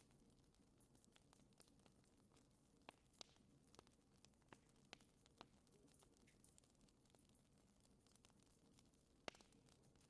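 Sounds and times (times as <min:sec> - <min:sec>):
campfire crackling and popping: 0:01.1 - 0:10.0.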